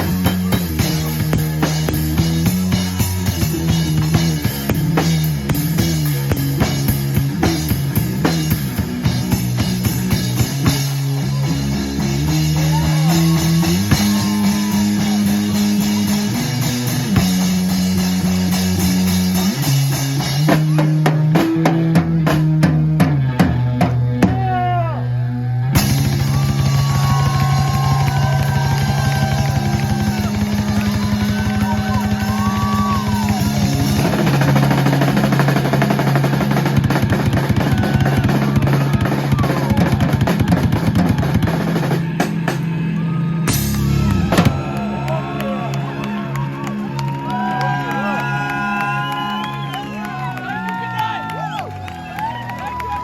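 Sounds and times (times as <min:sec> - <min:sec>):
drum kit: 0:00.0 - 0:25.0, 0:25.7 - 0:45.2
bass guitar: 0:00.0 - 0:53.0.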